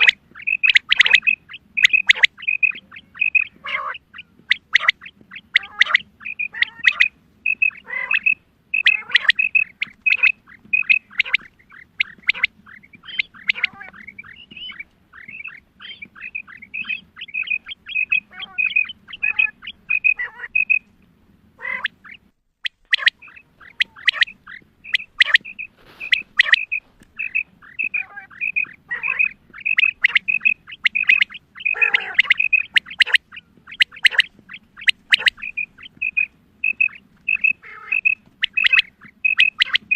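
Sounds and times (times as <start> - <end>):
quail calling: 0.0 - 21.0, 21.6 - 39.9.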